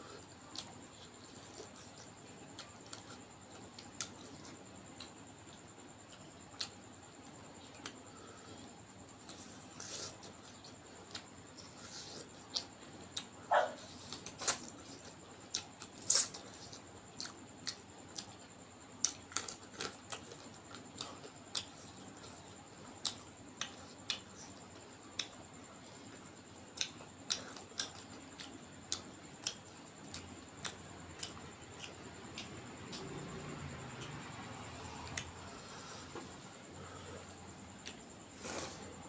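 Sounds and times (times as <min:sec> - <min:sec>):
chewing and lip-smacking: 0:00.3 - 0:06.8, 0:09.1 - 0:36.3, 0:37.2 - 0:38.6.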